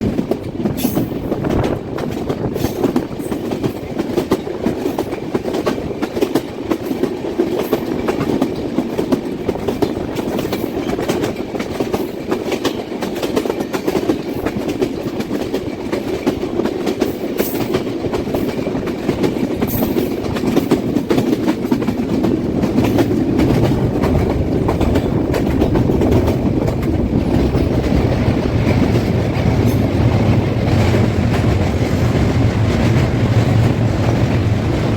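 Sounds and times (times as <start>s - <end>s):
train rumbling on rails: 0.0s - 34.9s
wheels clacking over track: 0.0s - 34.9s.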